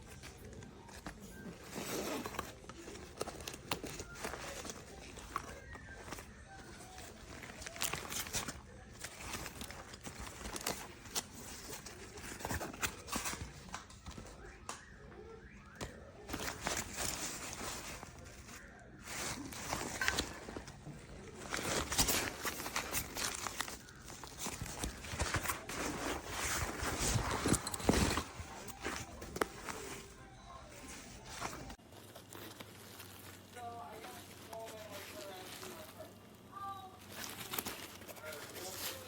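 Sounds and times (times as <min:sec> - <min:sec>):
backpack fabric rustling: 0:00.0 - 0:14.2, 0:15.8 - 0:39.0.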